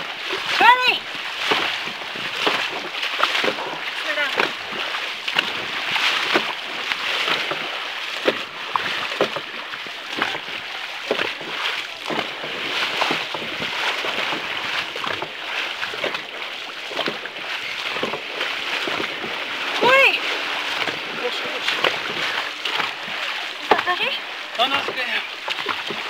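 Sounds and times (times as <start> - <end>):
paddles dipping and splashing: 0.0 - 26.0
water rushing along hull: 0.0 - 26.0.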